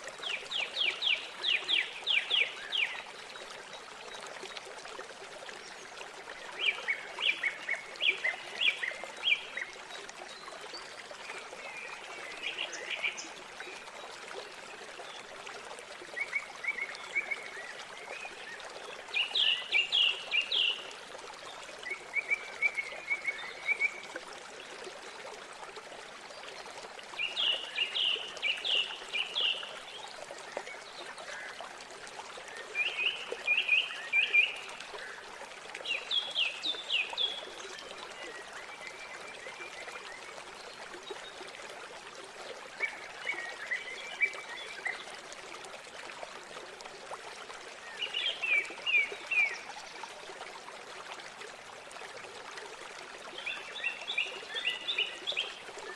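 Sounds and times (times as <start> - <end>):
flowing river water: 0.0 - 55.9.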